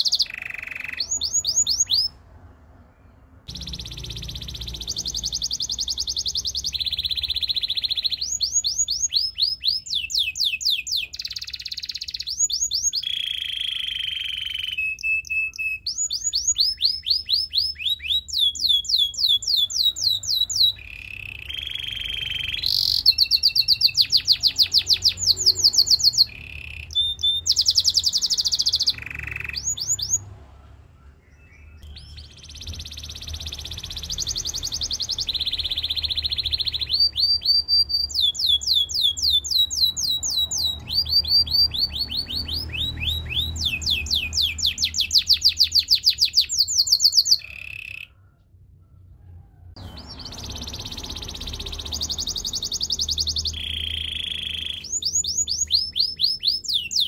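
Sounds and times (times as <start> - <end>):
canary singing trills: 0.0 - 48.4, 49.4 - 57.0.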